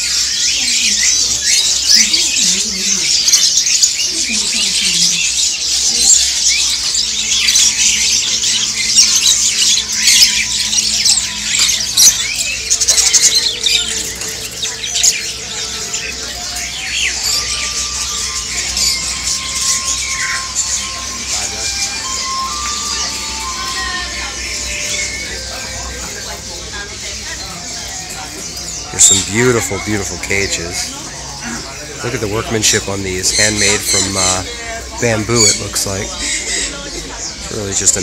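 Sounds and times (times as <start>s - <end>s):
people's voices: 0.0s - 38.0s
songbirds chirping and squawking: 0.0s - 38.0s.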